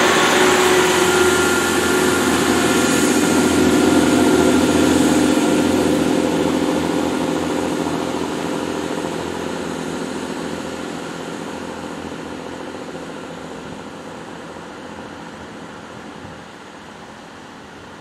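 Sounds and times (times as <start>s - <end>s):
train diesel engines humming: 0.0s - 18.0s.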